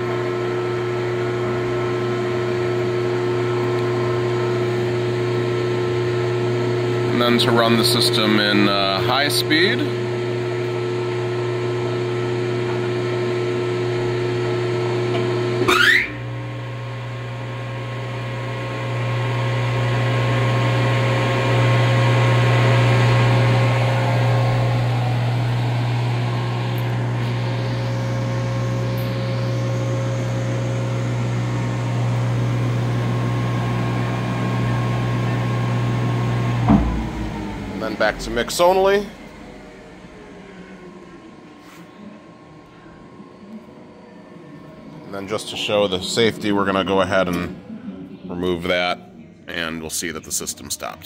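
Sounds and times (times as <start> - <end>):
motor rising whine: 0.0 - 48.7
mixer grinder motors humming: 0.0 - 51.0.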